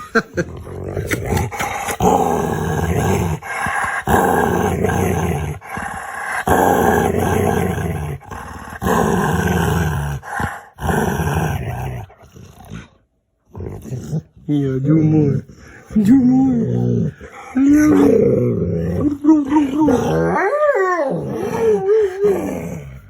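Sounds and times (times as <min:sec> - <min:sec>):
dog growling in play: 0:00.1 - 0:23.0.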